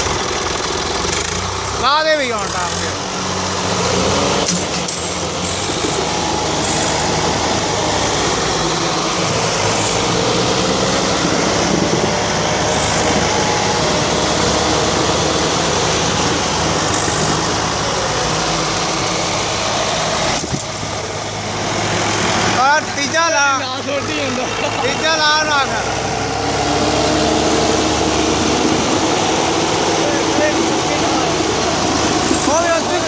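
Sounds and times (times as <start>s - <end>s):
tractor engine straining: 0.0s - 33.0s.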